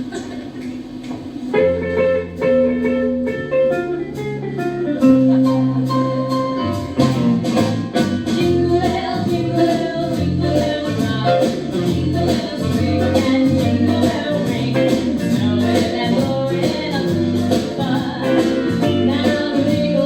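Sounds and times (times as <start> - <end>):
band music with steady beat: 1.5 - 20.0.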